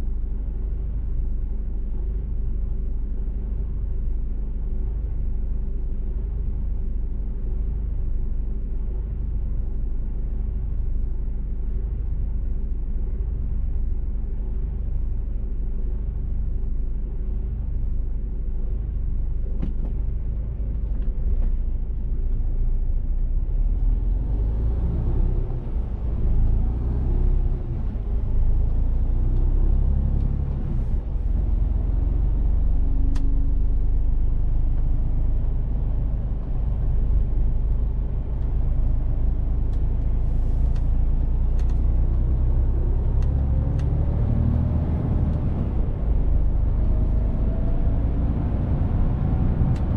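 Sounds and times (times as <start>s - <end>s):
road rumble: 0.0s - 49.9s.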